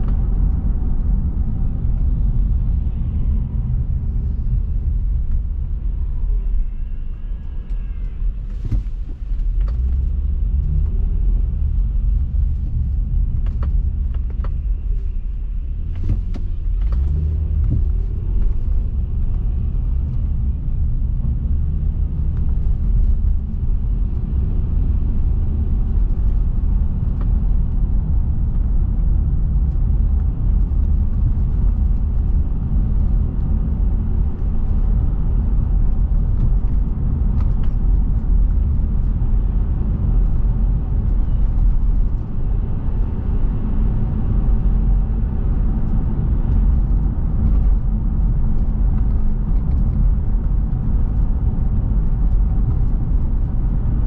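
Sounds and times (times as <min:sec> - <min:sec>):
car road rumble: 0:00.0 - 0:54.0.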